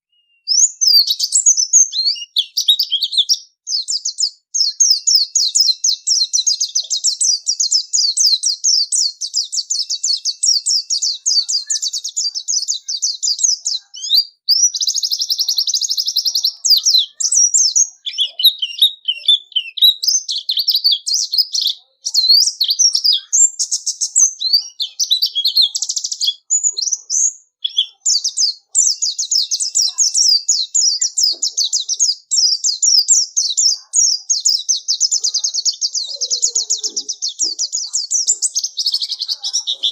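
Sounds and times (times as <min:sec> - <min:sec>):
bird singing fast chattering song: 0:00.4 - 0:39.9.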